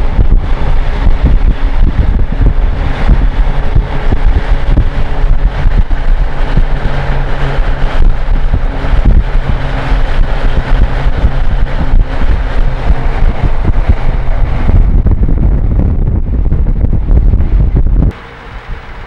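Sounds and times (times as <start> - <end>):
diesel truck engine running: 0.0 - 19.0
wind buffeting microphone: 0.0 - 19.0.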